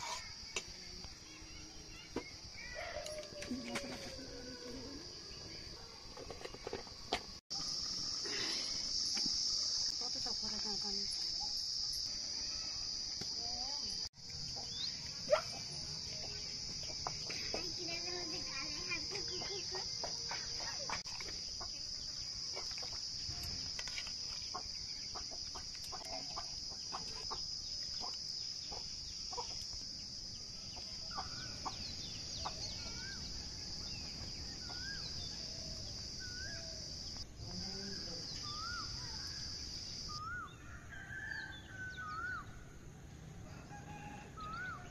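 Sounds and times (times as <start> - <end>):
high insect drone: 0.0 - 42.5.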